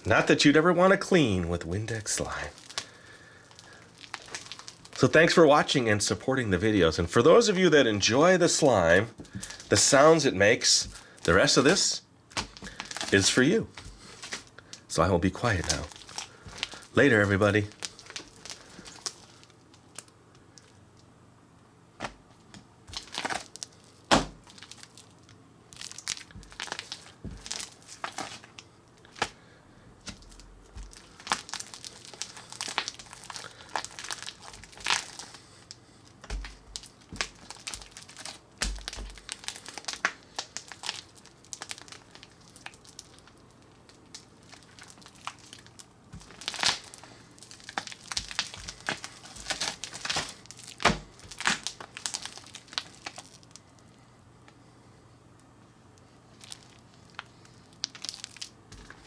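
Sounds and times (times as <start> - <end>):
slime crackling and popping: 1.8 - 6.2, 7.2 - 20.8, 22.0 - 29.4, 30.0 - 53.9, 55.9 - 59.0.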